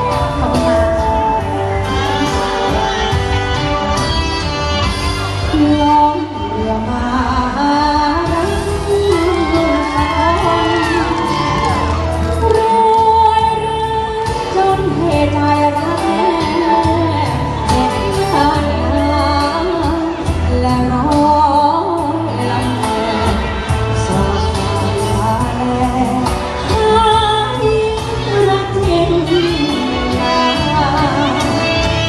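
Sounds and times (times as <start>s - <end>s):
person singing into a microphone: 0.0s - 3.6s, 5.4s - 32.0s
backing music with pulsing bass: 0.0s - 32.0s.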